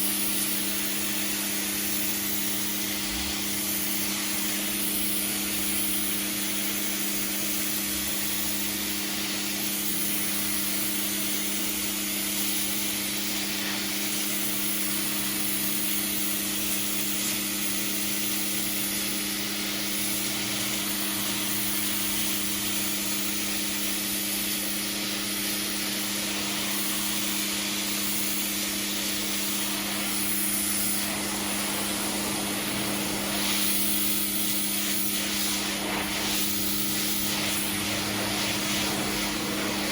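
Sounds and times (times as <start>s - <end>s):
pressure washer jet hissing: 0.0s - 39.9s
pressure washer motor hum: 0.0s - 39.9s.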